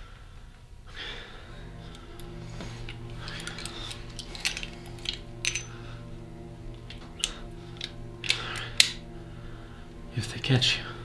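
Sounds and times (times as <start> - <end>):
low music drone: 0.9 - 11.0.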